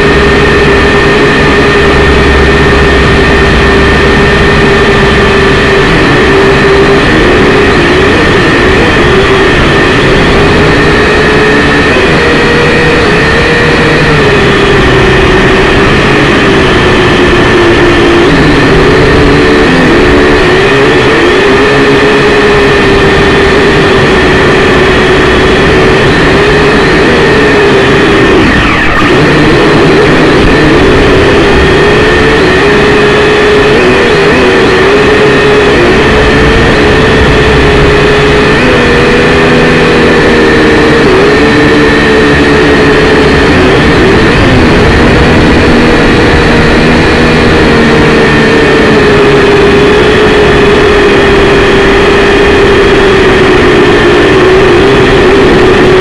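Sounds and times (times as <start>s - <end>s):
quadcopter propellers buzzing: 0.0s - 56.0s.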